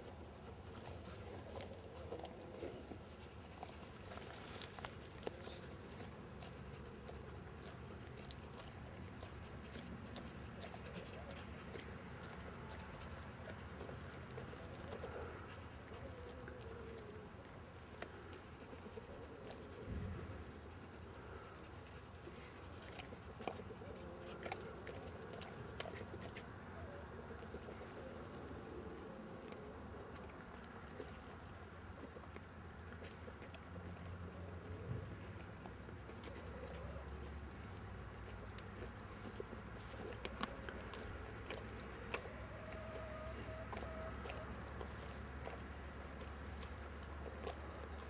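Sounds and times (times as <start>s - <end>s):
dog chewing meat: 0.0s - 48.0s
low background noise: 0.0s - 48.0s.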